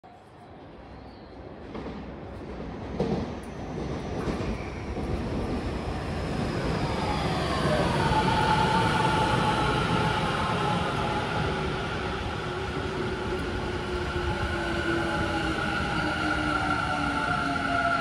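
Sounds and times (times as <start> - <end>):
train wheel and track rumble: 1.5 - 18.0.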